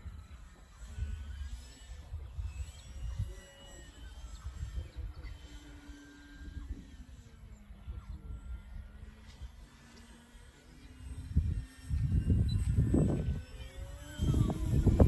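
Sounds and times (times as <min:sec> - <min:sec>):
distant model plane whine: 0:00.0 - 0:15.0
wind buffeting microphone: 0:00.0 - 0:15.0.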